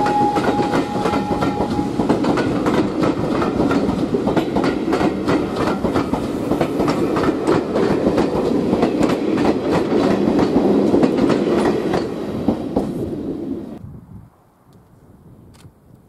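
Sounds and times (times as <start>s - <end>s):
train wheels clickety-clack: 0.0s - 13.2s.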